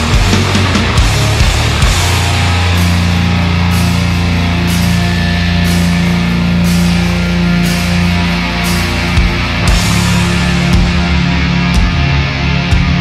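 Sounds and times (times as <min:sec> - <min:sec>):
heavy metal chord: 0:00.0 - 0:13.0.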